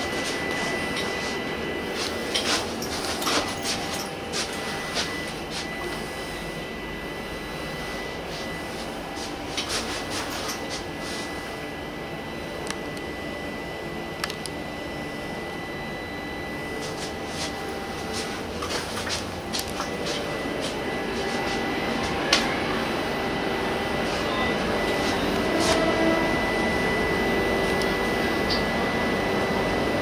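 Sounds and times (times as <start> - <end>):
thin high whine: 0.0 - 30.0
train coach interior hum: 0.0 - 30.0.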